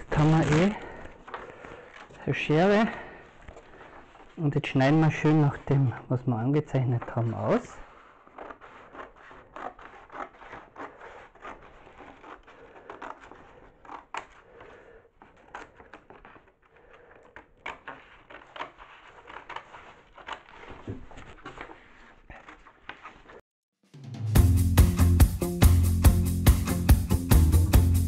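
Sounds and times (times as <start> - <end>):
scissors cutting paper: 0.0 - 23.4.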